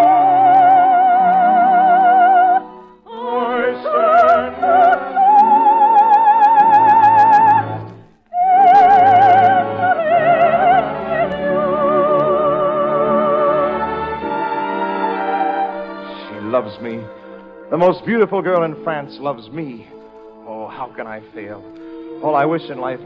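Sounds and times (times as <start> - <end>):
operatic singing: 0.0 - 23.0
orchestra playing: 0.0 - 23.0.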